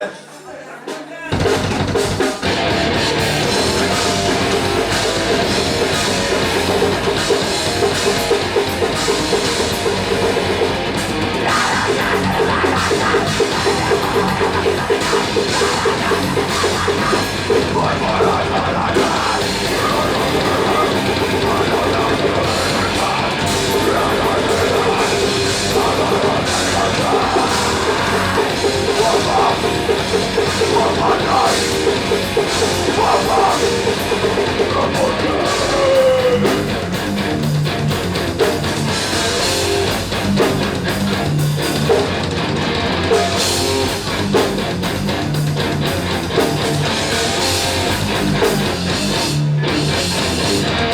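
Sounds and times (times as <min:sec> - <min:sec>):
loud rock music: 0:00.9 - 0:50.9.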